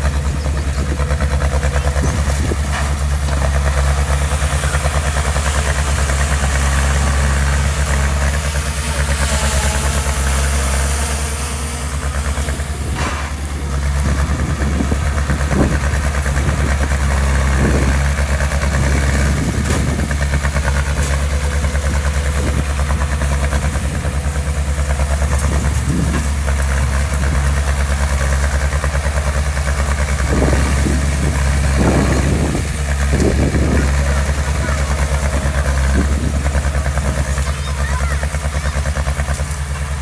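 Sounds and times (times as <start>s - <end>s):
diesel engine running at low revs: 0.0s - 40.0s.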